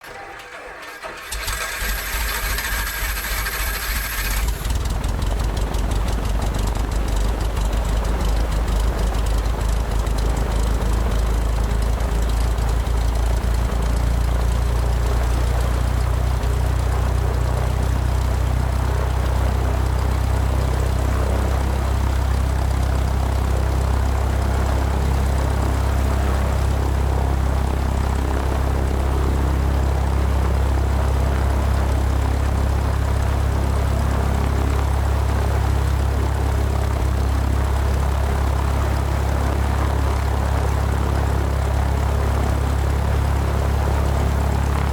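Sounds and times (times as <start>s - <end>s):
high engine whine: 0.0s - 44.9s
propeller airplane engine droning: 0.0s - 44.9s.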